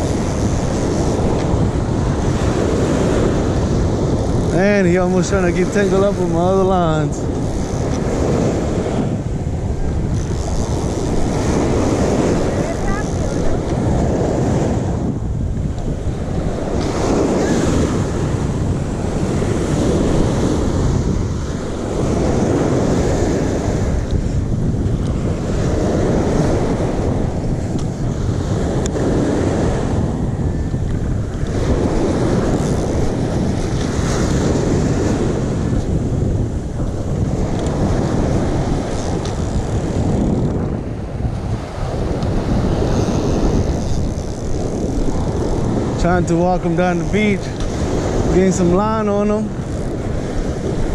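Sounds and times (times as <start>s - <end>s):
surf washing on beach: 0.0s - 50.9s
wind buffeting microphone: 0.0s - 50.9s.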